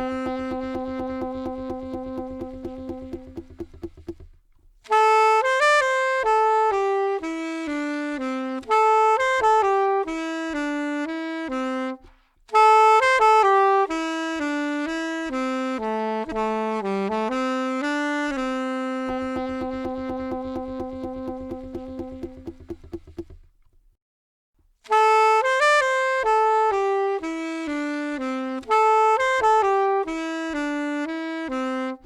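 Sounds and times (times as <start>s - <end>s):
solo saxophone melody: 0.0s - 23.5s, 24.8s - 32.0s.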